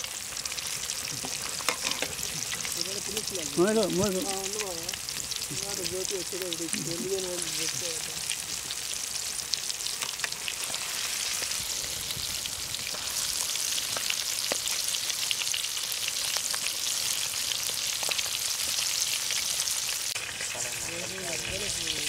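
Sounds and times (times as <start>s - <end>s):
chicken deep-frying in hot oil: 0.0s - 22.0s
oil crackling and popping: 0.0s - 22.0s.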